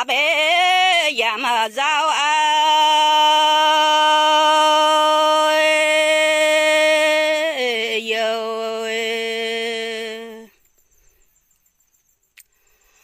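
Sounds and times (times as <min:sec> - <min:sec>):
woman singing unaccompanied: 0:00.0 - 0:10.6.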